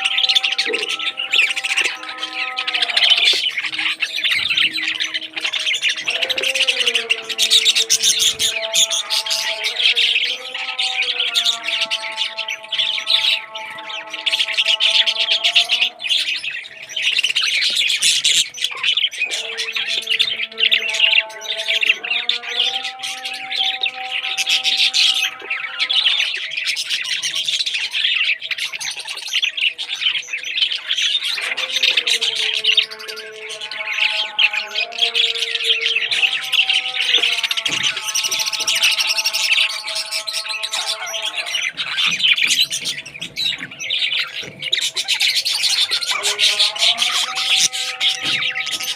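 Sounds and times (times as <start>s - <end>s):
parrots chattering and squawking: 0.0s - 48.9s.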